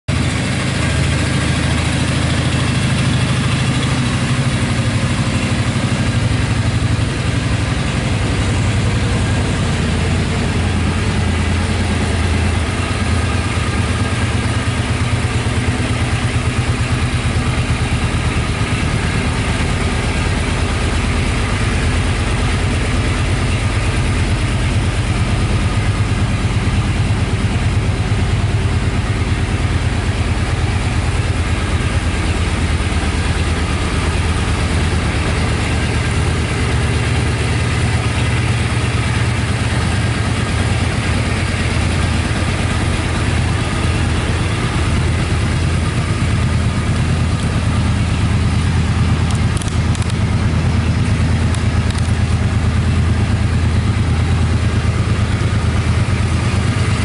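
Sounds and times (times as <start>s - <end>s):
motorcycle engine idling: 0.1s - 57.0s.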